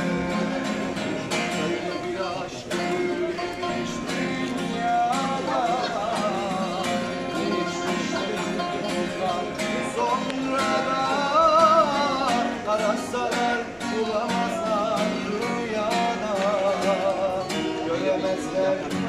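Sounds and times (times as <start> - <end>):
man singing: 0.0 - 19.0
plucked oud: 0.0 - 19.0
strummed acoustic guitar: 0.0 - 19.0.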